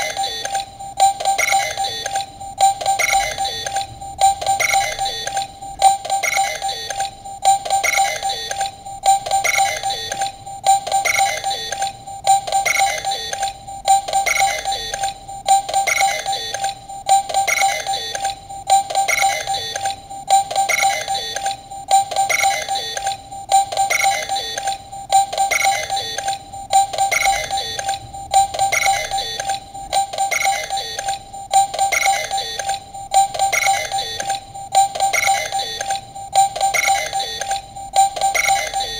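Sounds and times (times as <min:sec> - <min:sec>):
steady high tone: 0:00.0 - 0:38.9.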